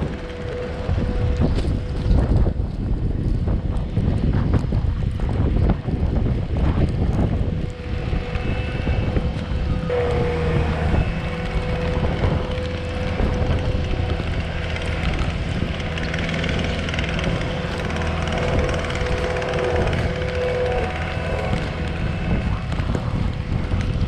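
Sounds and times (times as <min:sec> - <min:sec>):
diesel engine running: 0:00.0 - 0:24.0
steady whine: 0:00.0 - 0:24.0.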